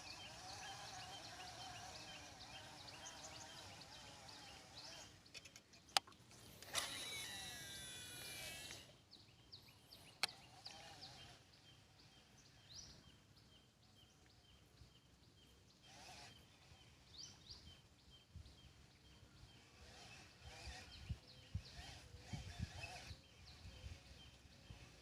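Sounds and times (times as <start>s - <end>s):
bird chirping: 0.0s - 6.1s, 6.7s - 25.0s.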